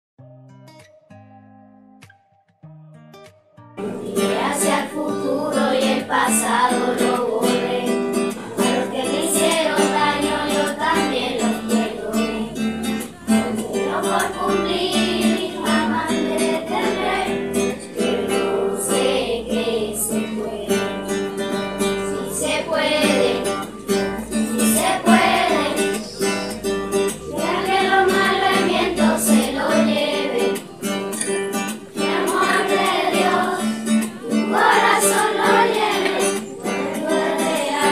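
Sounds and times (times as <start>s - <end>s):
strummed acoustic guitar: 0.2s - 37.9s
children's choir singing: 3.8s - 37.9s.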